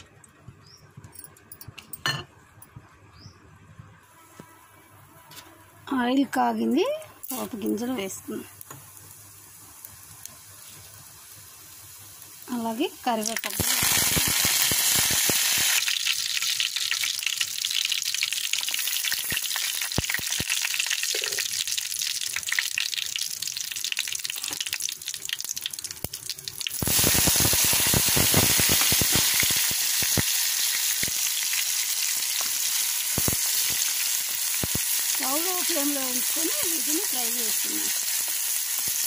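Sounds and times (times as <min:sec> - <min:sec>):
vegetables sizzling in oil: 0:05.9 - 0:39.0
hot oil sizzling and popping: 0:07.2 - 0:39.0.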